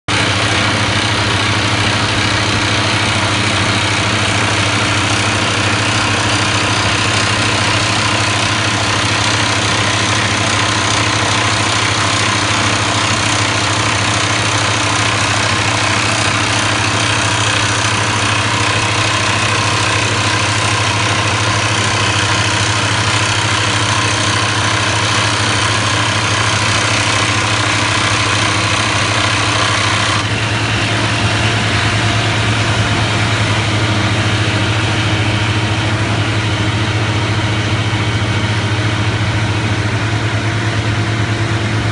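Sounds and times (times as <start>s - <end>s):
diesel engine: 0.0s - 41.9s
rapid hammering of drill: 0.1s - 36.1s
second drill rig working: 0.1s - 41.9s.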